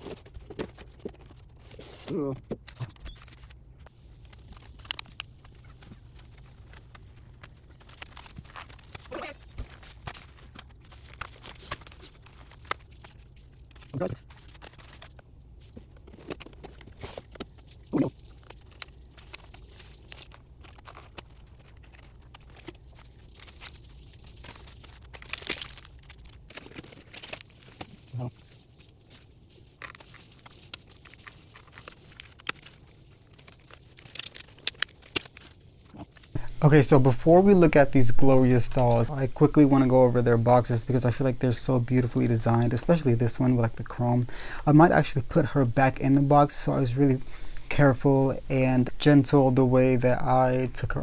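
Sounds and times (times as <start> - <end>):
plastic packaging crinkling: 0.0 - 44.0
cardboard and plastic rustling: 0.0 - 44.1.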